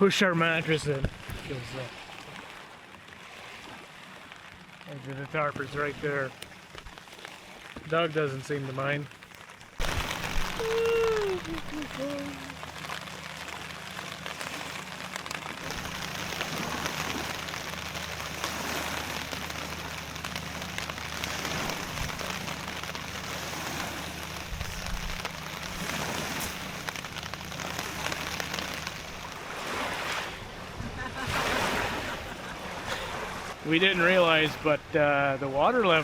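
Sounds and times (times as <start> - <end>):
heavy rain on a tarp: 0.0 - 36.0.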